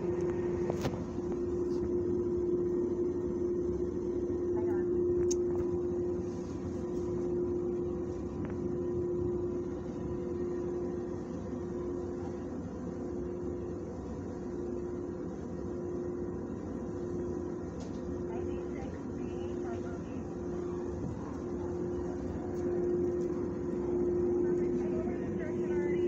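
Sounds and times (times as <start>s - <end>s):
ventilation fan humming: 0.0s - 26.0s.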